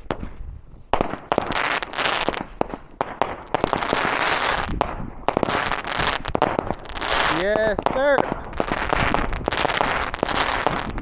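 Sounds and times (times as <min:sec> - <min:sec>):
fireworks cracking and popping: 0:00.0 - 0:11.0.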